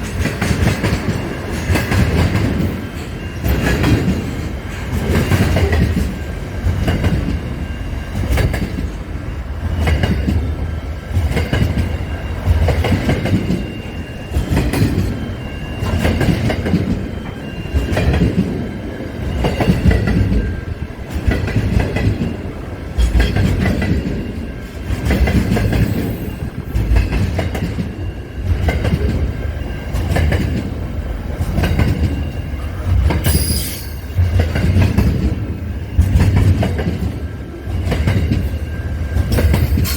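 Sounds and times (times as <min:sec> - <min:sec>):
train wheels clickety-clack: 0:00.0 - 0:39.9
train wheels squealing: 0:00.0 - 0:39.9.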